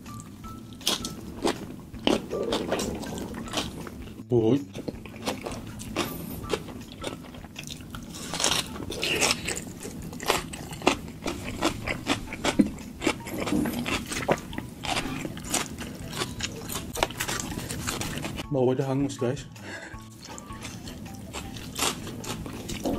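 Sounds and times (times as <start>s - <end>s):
person biting and chewing food: 0.0s - 18.4s, 20.1s - 22.9s.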